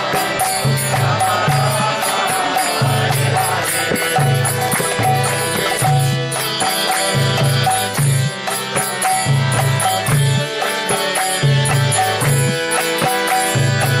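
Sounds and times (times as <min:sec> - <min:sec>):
drum strokes: 0:00.0 - 0:14.0
hand cymbal strikes: 0:00.0 - 0:14.0
sustained instrument notes: 0:00.0 - 0:14.0.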